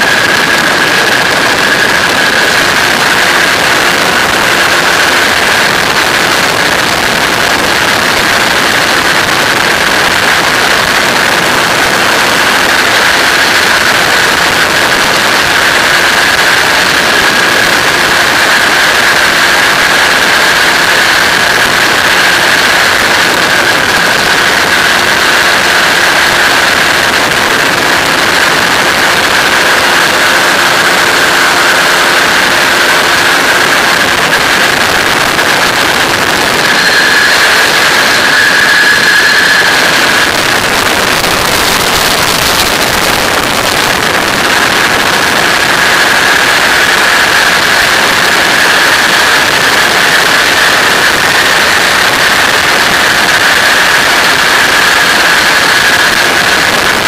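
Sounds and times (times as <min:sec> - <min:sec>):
constant high whine: 0:00.0 - 0:57.0
heavy wind rush: 0:00.0 - 0:57.0
microlight engine and propeller drone: 0:00.0 - 0:57.0.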